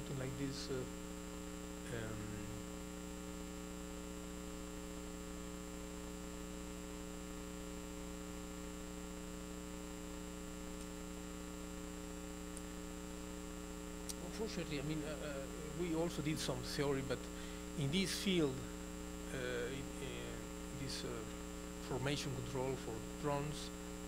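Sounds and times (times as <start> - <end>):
electrical mains hum: 0.0 - 24.0
faint background hiss: 0.0 - 24.0.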